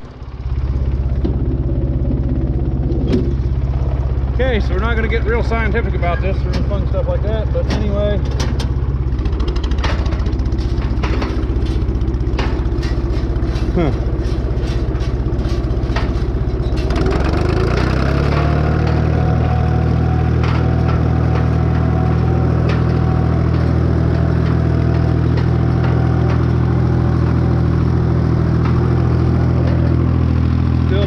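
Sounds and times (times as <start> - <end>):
tractor engine revving: 0.0 - 31.0.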